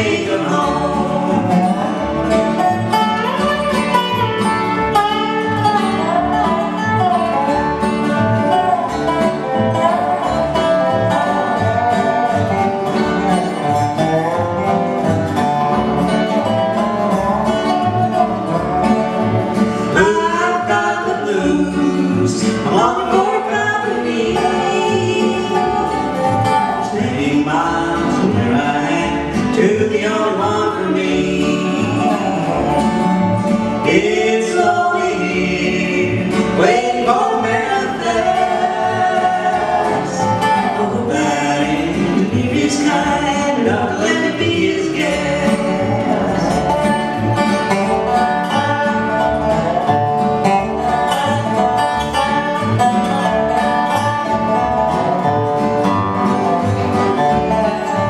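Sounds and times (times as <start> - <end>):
slide guitar gliding notes: 0.0 - 58.0
strummed acoustic guitar: 0.0 - 58.0
upright bass: 0.0 - 58.0.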